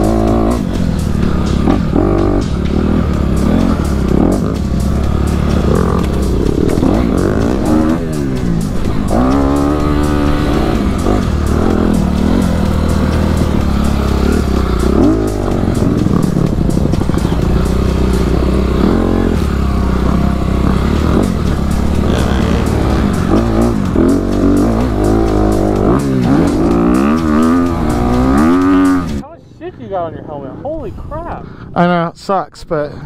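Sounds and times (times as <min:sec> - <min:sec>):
dirt bike engine revving: 0:00.0 - 0:29.2
music: 0:00.0 - 0:31.6.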